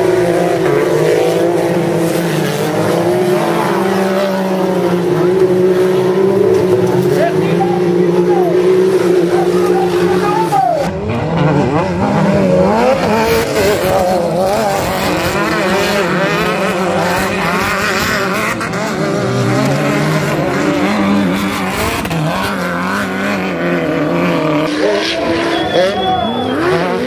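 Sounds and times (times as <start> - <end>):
buggy engines revving loudly: 0.0 - 27.0.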